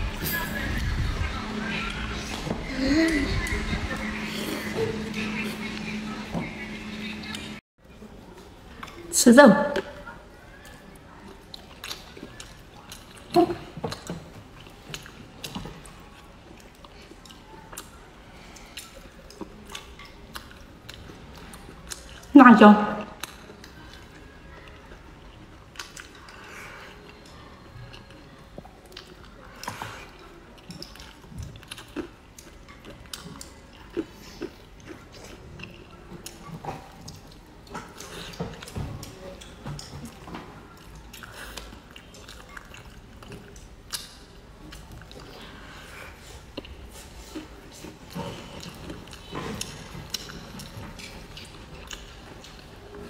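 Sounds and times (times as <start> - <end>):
chewing and mouth sounds: 9.7 - 22.3, 22.9 - 53.0.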